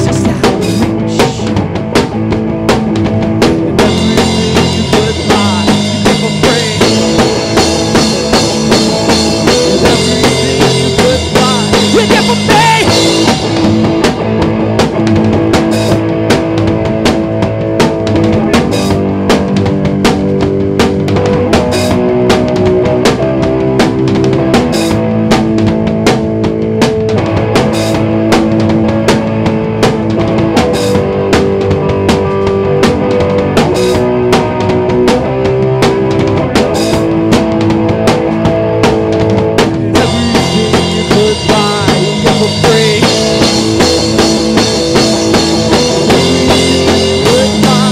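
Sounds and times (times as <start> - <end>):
drum kit beating: 0.0 - 47.9
held guitar and bass notes: 0.0 - 47.9
rock band instrumental: 0.0 - 47.9.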